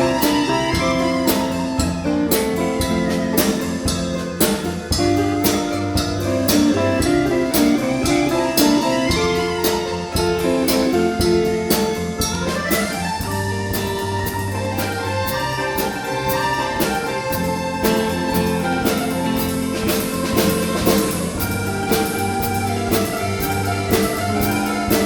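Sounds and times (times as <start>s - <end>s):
folk instrument ensemble playing: 0.0s - 25.0s.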